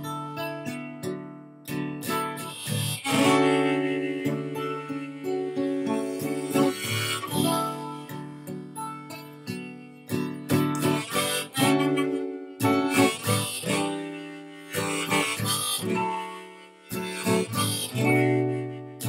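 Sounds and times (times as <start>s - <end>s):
strummed acoustic guitar: 0.0s - 19.0s
harmonica playing: 2.0s - 19.0s.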